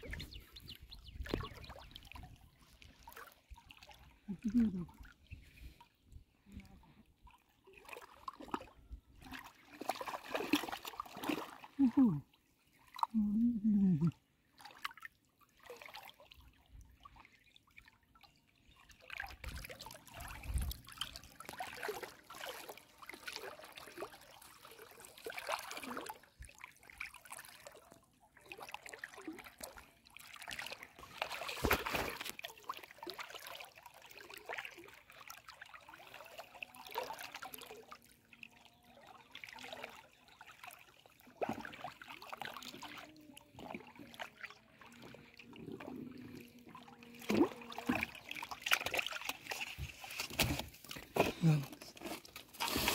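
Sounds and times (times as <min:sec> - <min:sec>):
water sloshing around wading people: 0:00.0 - 0:52.9.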